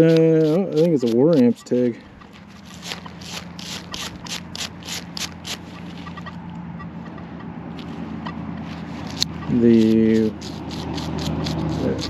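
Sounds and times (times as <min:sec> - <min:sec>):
quick scrubbing strokes: 0:00.0 - 0:06.1, 0:07.8 - 0:12.0
low steady hum: 0:00.0 - 0:12.0.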